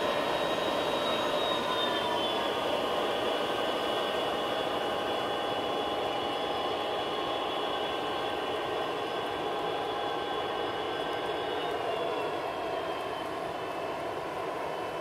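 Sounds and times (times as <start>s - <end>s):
freight train rumble: 0.0s - 15.0s
high whining tones: 0.0s - 15.0s.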